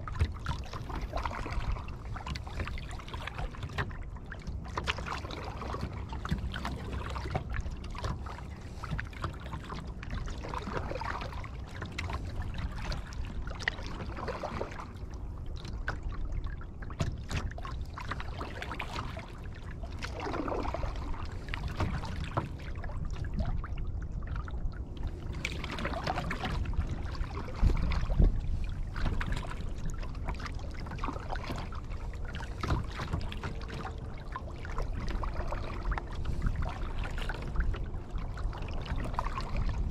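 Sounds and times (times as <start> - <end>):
paddle pulling through water: 0.0 - 39.9
steady low rumble: 0.0 - 39.9
water trickling along hull: 0.0 - 39.9.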